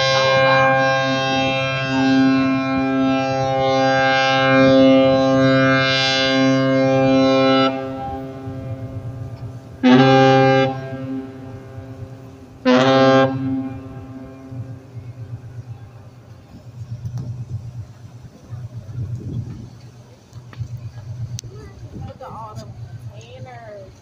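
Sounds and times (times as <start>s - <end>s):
ship horn blasts: 0.0s - 20.0s.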